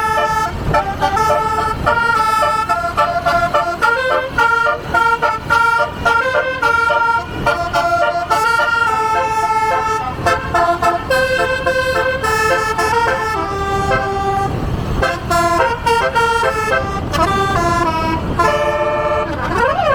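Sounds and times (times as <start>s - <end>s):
bus horn playing a fast tune: 0.0s - 19.9s.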